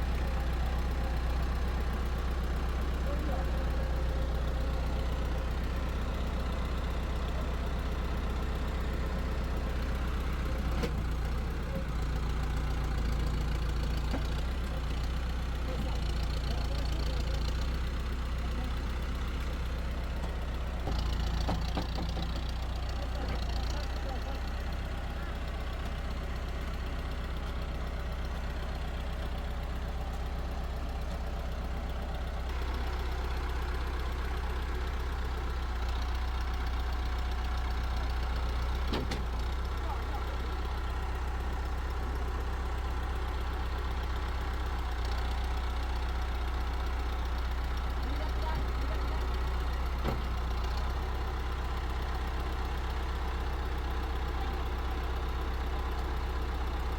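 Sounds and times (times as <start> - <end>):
low engine hum: 0.0 - 56.9.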